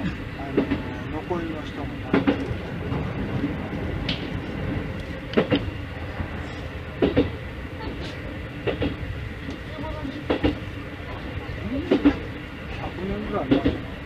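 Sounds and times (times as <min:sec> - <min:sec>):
train running rumble: 0:00.0 - 0:14.0
train wheels clacking over joints: 0:00.0 - 0:14.0.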